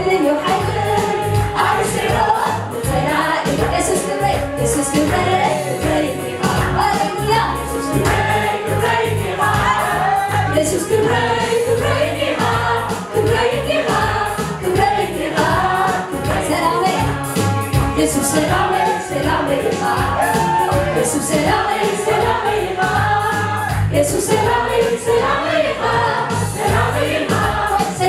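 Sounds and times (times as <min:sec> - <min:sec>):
woman leading choir singing: 0:00.0 - 0:17.4, 0:18.0 - 0:28.0
amplified instrumental accompaniment: 0:00.0 - 0:28.0
choir singing gospel song: 0:00.0 - 0:28.0.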